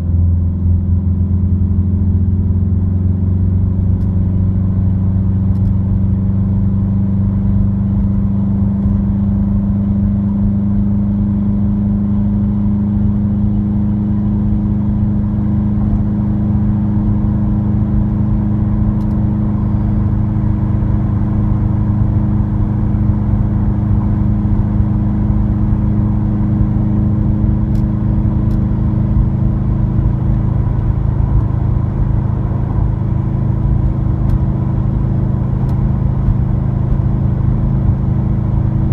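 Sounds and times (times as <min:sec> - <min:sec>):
car exhaust drone in cabin: 0:00.0 - 0:38.9.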